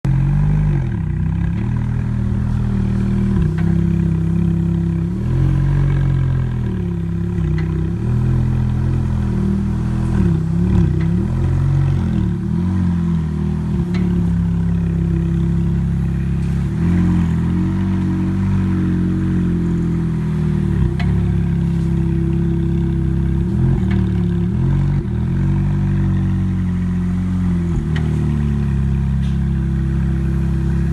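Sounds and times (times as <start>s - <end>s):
car engine at low revs: 0.0s - 30.9s.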